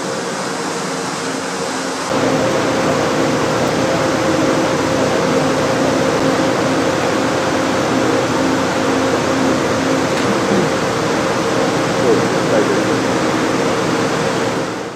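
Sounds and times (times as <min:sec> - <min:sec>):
machinery low hum: 0:00.0 - 0:14.9.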